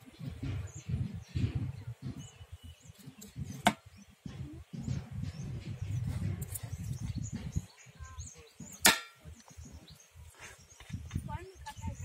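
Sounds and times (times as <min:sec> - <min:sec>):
birds chirping: 0:00.0 - 0:12.0
wind rumble on microphone: 0:00.0 - 0:12.0.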